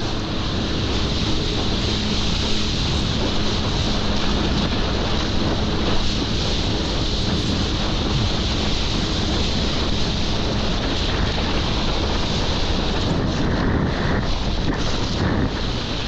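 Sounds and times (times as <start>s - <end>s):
jet ski engine droning: 0.0s - 16.0s
rushing water: 0.0s - 16.0s
wind buffeting microphone: 0.0s - 16.0s.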